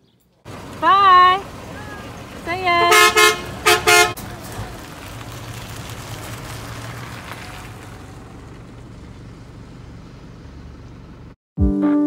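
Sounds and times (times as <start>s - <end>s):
road noise: 0.0s - 11.4s
truck engine running: 0.4s - 11.4s.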